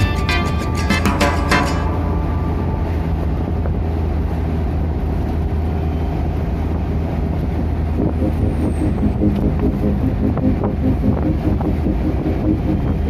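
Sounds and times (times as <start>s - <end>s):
vehicle rumbling: 0.0s - 13.0s
wind noise on microphone: 0.0s - 13.0s.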